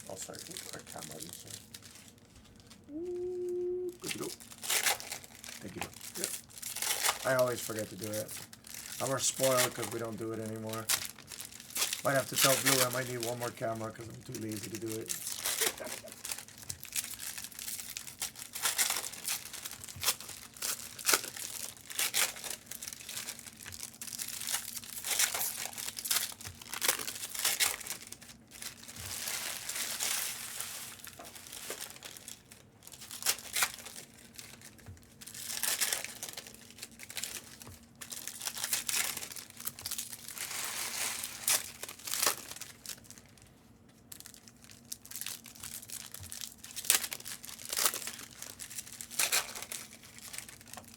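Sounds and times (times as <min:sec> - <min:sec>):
plastic wrappers crinkling and tearing: 0:00.0 - 0:50.9.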